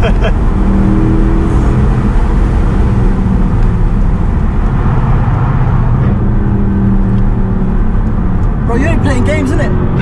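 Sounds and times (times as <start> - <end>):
car engine running: 0.0 - 10.0
road and tyre noise: 0.0 - 10.0.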